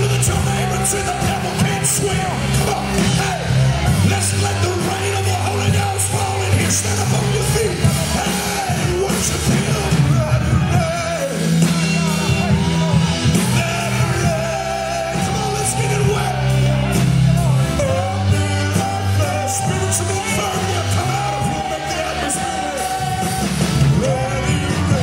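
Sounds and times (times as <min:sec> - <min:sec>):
gospel band playing: 0:00.0 - 0:25.0
person singing: 0:00.0 - 0:25.0.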